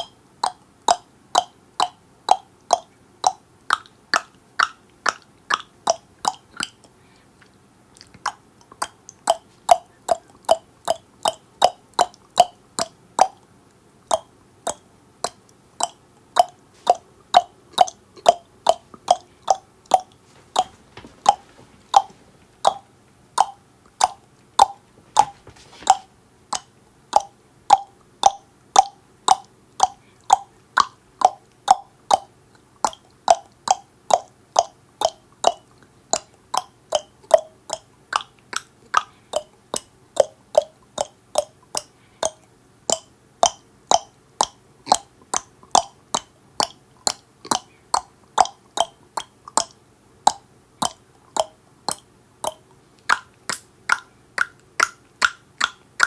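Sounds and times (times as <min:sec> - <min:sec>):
tongue clicking: 0:00.0 - 0:56.0.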